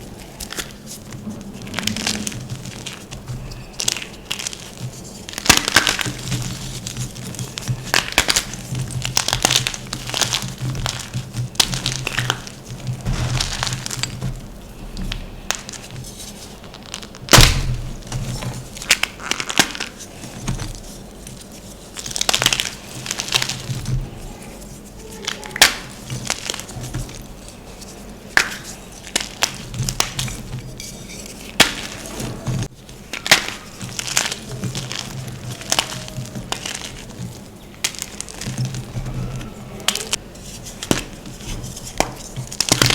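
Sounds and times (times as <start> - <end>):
chalk blocks crushed and crunching: 1.6 - 24.5, 25.1 - 27.3, 28.3 - 42.9.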